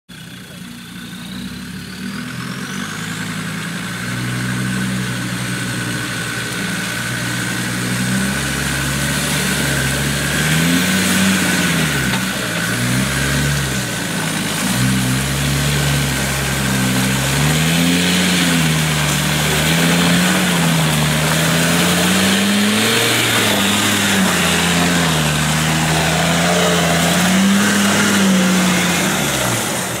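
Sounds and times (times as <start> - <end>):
car engine labouring uphill: 0.1 - 30.0.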